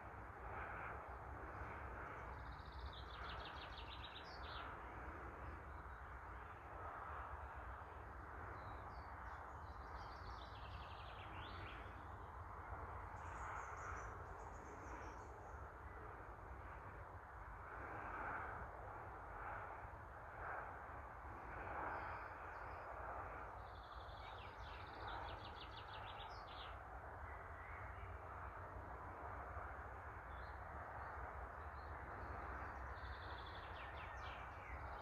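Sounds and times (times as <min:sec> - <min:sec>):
low outdoor background noise: 0:00.0 - 0:35.0.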